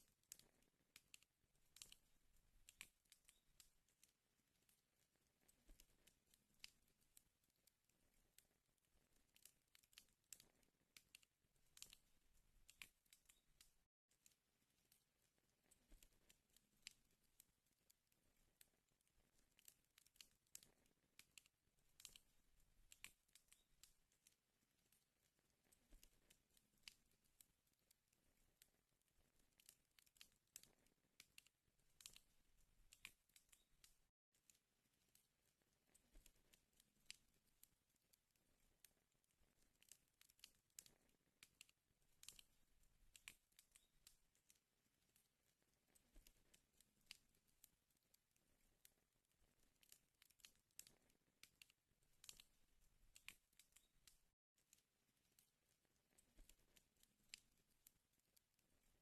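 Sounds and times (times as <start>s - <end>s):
wood fire crackling faintly: 0.0s - 59.0s.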